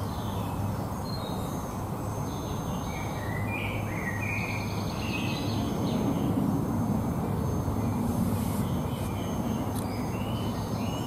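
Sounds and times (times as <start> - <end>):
songbirds chirping: 0.0 - 6.6, 7.2 - 11.0.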